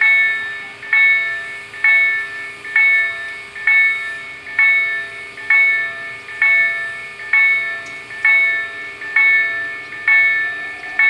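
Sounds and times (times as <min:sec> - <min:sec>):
level crossing warning bells: 0:00.0 - 0:11.0.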